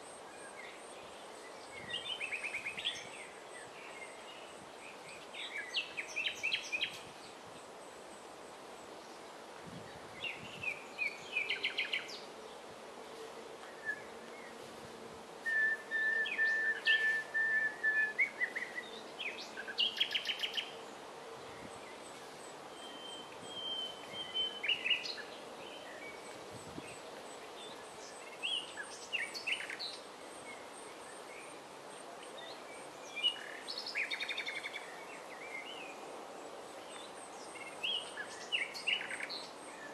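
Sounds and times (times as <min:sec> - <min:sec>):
nightingale singing: 0:00.0 - 0:07.8, 0:09.8 - 0:12.3, 0:13.6 - 0:14.6, 0:15.4 - 0:31.5, 0:32.2 - 0:39.9.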